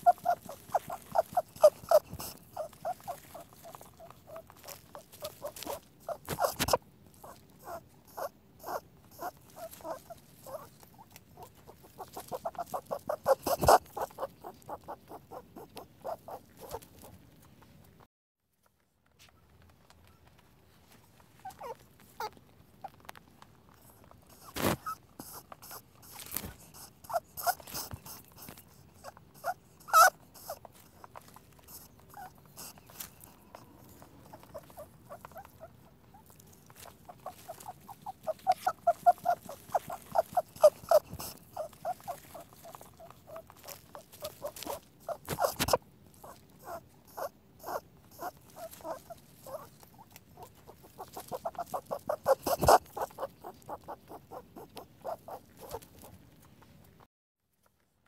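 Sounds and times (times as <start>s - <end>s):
rabbit squeaks and clicks: 0.0s - 18.0s, 21.0s - 57.0s
rabbit squeaky pips: 0.0s - 18.0s, 19.2s - 57.0s.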